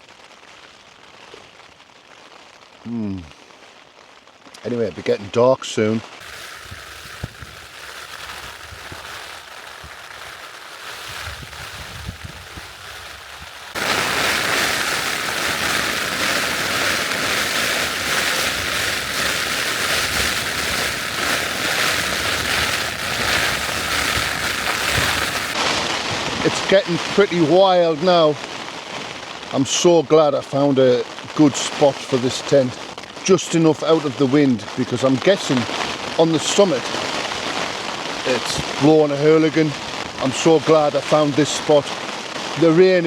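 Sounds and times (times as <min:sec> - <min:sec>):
rain on tent flysheet: 0:00.0 - 0:43.0.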